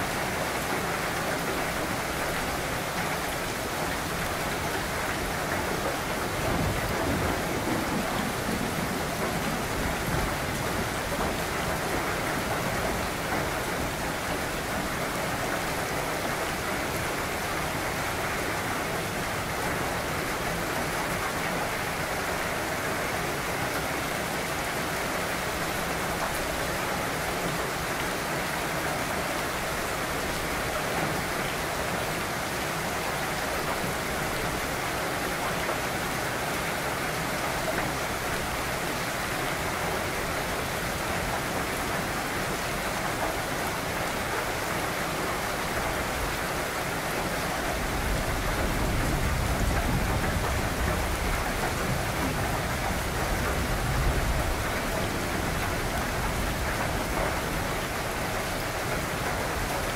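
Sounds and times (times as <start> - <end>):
rain falling on trees and grass: 0.0 - 59.9.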